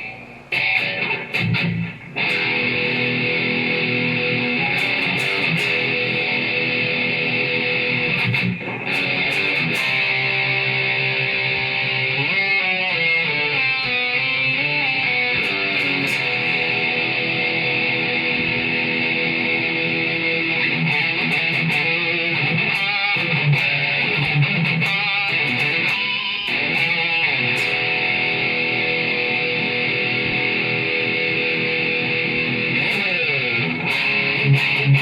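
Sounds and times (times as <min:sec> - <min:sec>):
distorted electric guitar riffs: 0:00.0 - 0:35.0.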